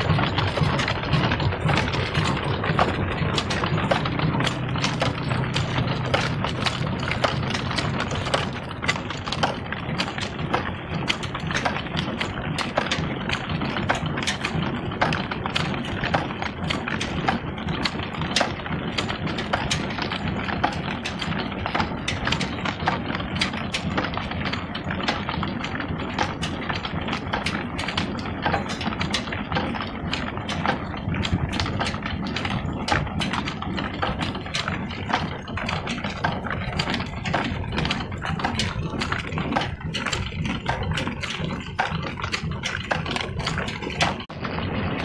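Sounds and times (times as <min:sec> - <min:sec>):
diesel engine running: 0:00.0 - 0:45.0
line shaft turning: 0:00.0 - 0:45.0
mechanical ticking clatter: 0:00.0 - 0:45.0.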